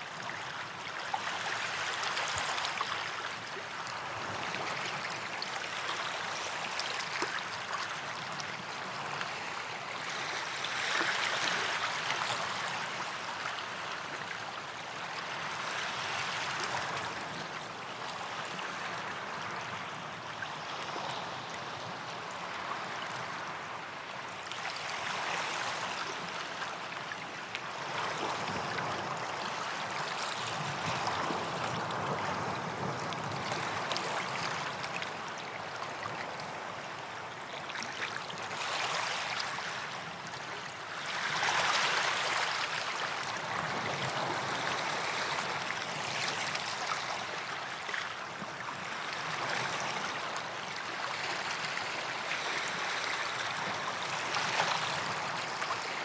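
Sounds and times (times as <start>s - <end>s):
small waves washing onto sand: 0.0s - 56.0s.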